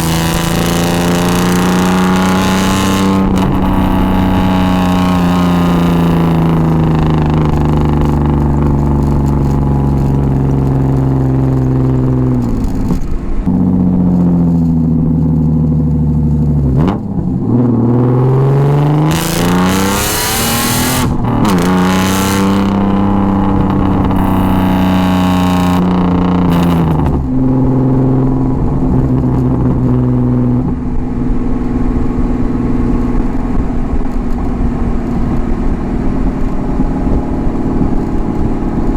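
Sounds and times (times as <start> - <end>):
car engine revving while driving: 0.0 - 38.9.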